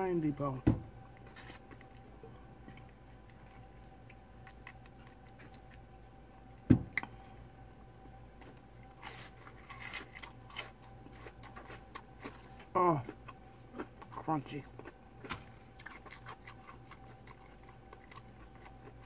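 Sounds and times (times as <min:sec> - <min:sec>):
chewing crispy fish: 0:01.1 - 0:07.2, 0:08.3 - 0:19.0.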